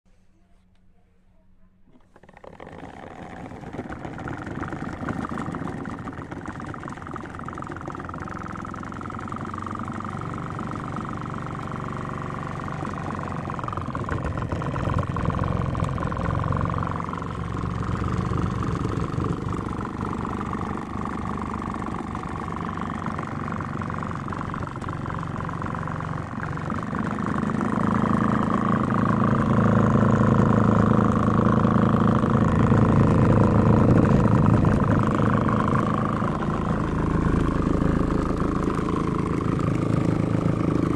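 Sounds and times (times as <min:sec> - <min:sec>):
washing machine motor humming: 0:01.8 - 0:40.9.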